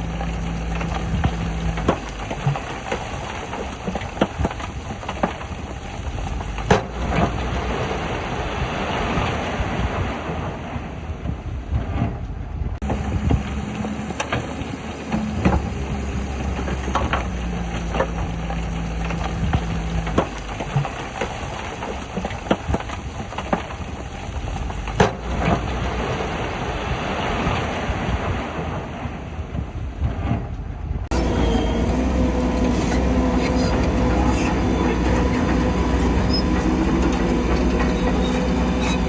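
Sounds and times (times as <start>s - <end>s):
bulldozer diesel engine: 0.0s - 10.8s, 11.5s - 29.1s, 30.4s - 39.0s.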